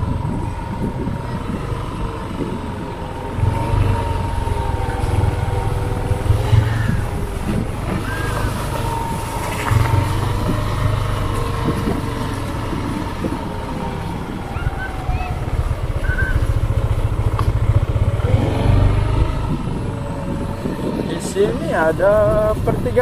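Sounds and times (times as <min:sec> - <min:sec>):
motorcycle engine running: 0:00.0 - 0:23.0
wind rumbling on microphone: 0:00.0 - 0:23.0.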